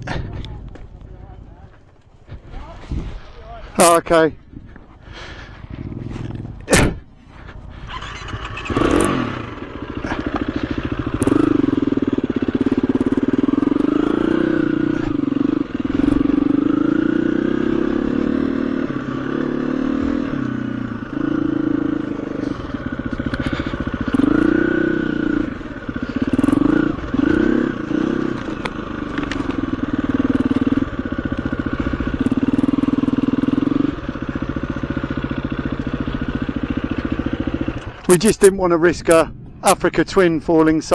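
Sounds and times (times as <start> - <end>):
motorcycle engine revving: 3.8 - 40.9.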